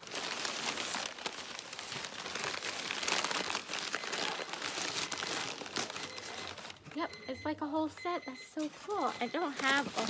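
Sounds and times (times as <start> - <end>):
paper crinkling and rustling: 0.0 - 7.0, 8.4 - 10.0.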